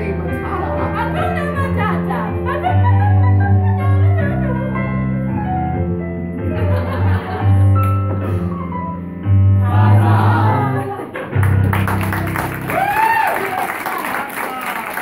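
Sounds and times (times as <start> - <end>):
digital piano chords: 0.0 - 12.8.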